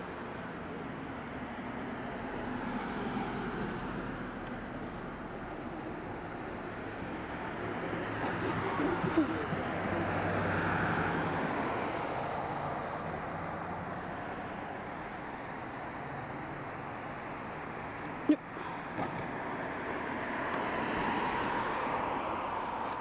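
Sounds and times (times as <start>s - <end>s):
passing cars rushing: 1.2s - 23.0s.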